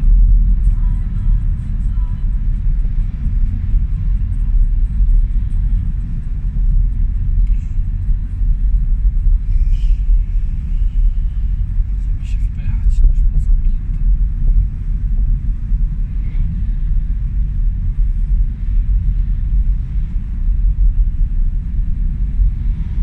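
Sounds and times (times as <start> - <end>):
road noise: 0.0 - 23.0
truck engine rumble: 0.0 - 23.0.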